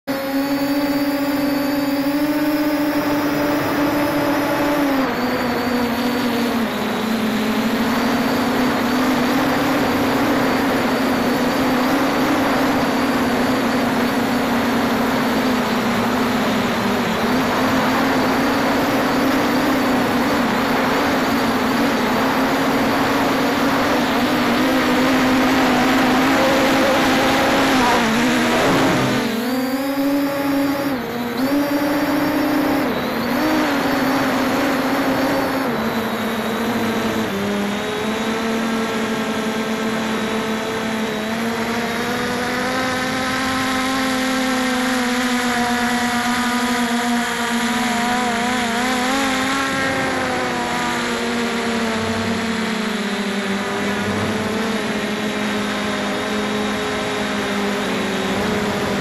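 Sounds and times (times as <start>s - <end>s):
drone motors whining: 0.1s - 59.0s.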